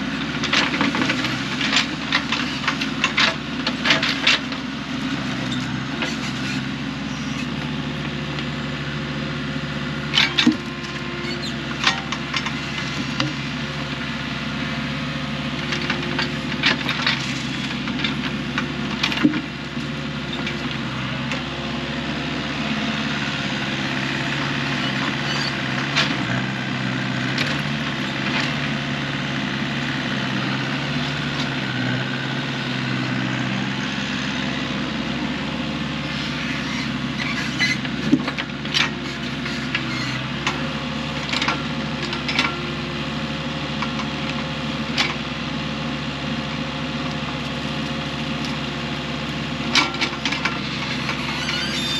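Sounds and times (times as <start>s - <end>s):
engine running steadily: 0.0s - 51.9s.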